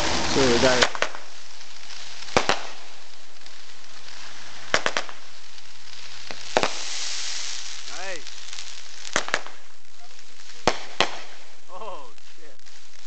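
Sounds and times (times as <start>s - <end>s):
fireworks bangs: 0.0s - 13.0s
steady hiss: 0.0s - 13.0s.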